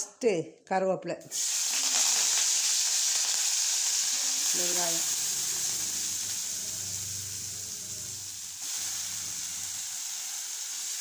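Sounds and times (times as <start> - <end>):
onion sizzling in hot oil: 1.3 - 11.0.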